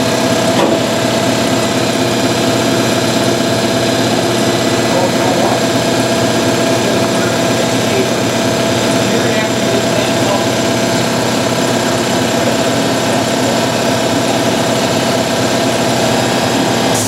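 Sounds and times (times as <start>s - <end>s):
motor running: 0.0s - 17.0s.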